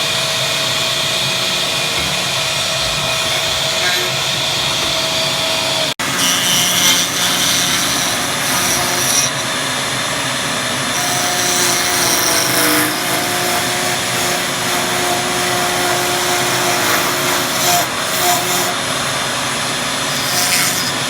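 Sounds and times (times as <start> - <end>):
power tool whirring: 2.5 - 21.0.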